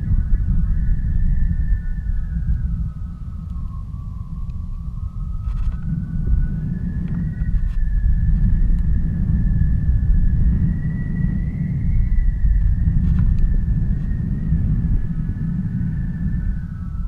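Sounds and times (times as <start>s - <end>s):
air buffeting microphone: 0.0s - 17.0s
faint wavering whistle tone: 0.0s - 17.0s.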